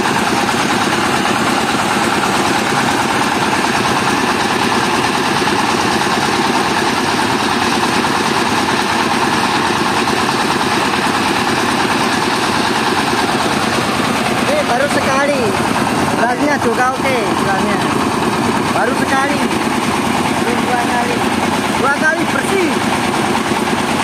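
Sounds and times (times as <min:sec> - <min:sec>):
rice mill diesel engine running: 0:00.0 - 0:24.0.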